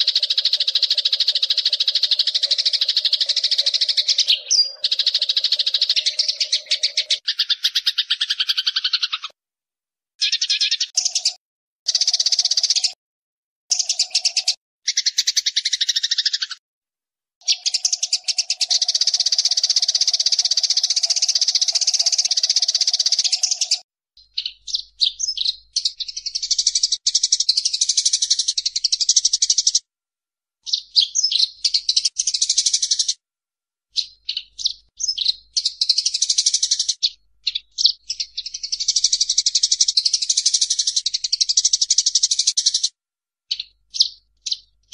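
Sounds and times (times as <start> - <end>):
sparrows chattering and chirping: 0.0 - 9.4, 10.2 - 13.0, 13.7 - 16.6, 17.4 - 29.9, 30.6 - 33.2, 33.9 - 44.9.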